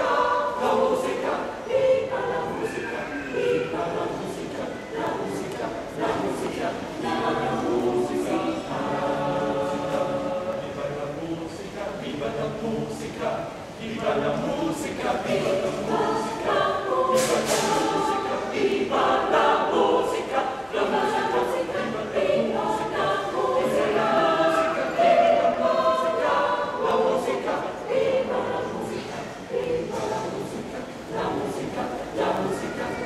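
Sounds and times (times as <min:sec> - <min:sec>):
mixed choir singing: 0:00.0 - 0:33.0.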